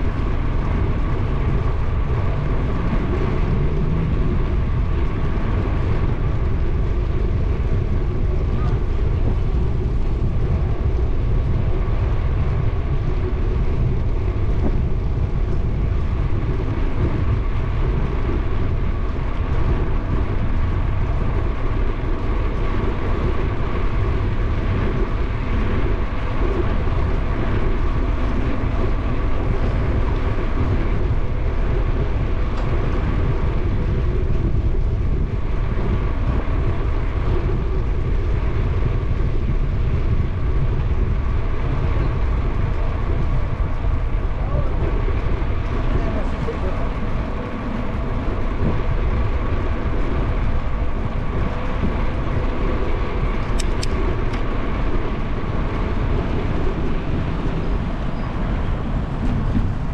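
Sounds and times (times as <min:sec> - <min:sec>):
bicycle tyres rolling on asphalt: 0:00.0 - 0:59.9
wind rushing over microphone: 0:00.0 - 0:59.9.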